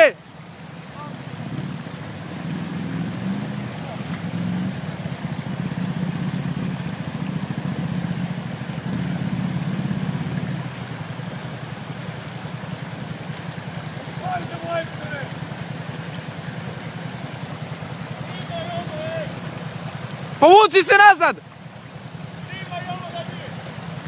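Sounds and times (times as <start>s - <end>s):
water rushing: 0.0s - 24.0s
quad engine running: 0.7s - 20.4s.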